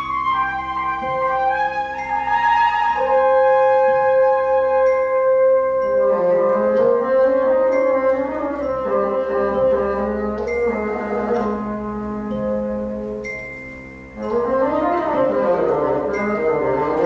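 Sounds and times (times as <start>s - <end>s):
orchestra playing classical music: 0.0s - 17.0s.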